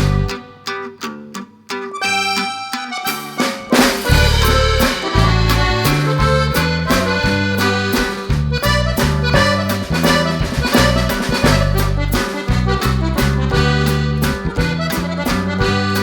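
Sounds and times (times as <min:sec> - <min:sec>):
background music with beat: 0:00.0 - 0:00.6, 0:02.0 - 0:16.0.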